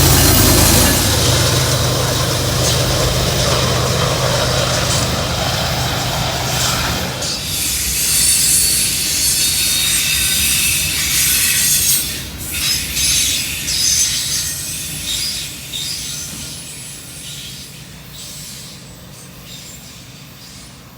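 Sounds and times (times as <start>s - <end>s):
railroad cars rumbling: 0.0s - 20.9s
train wheels squealing: 0.0s - 20.9s.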